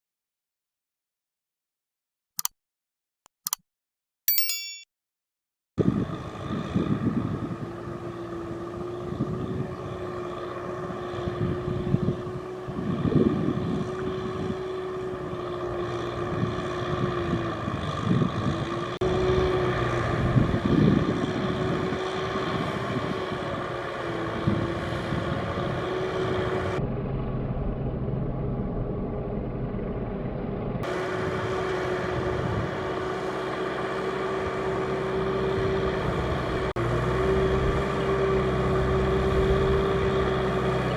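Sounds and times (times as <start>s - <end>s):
tractor diesel engine under load: 5.9s - 28.5s, 29.2s - 40.9s.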